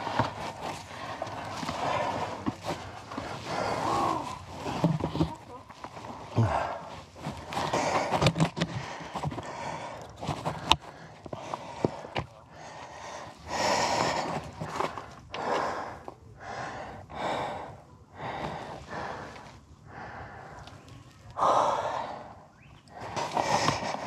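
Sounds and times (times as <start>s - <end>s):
person breathing hard: 0.0s - 5.4s, 6.0s - 24.0s.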